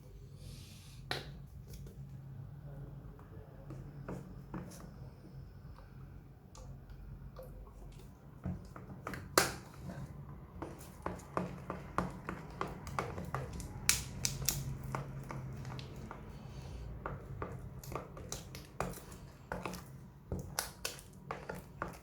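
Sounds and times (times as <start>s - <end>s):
slime squishing: 3.1s - 22.0s.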